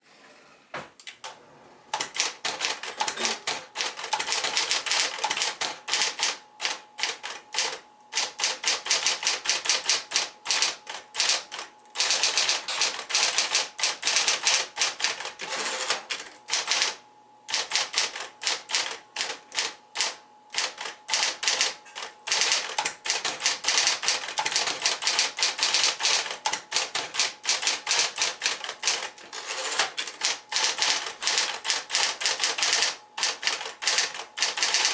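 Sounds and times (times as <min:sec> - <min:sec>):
typewriter motor hum: 0:01.2 - 0:34.9
typewriter keystrokes: 0:01.9 - 0:34.9.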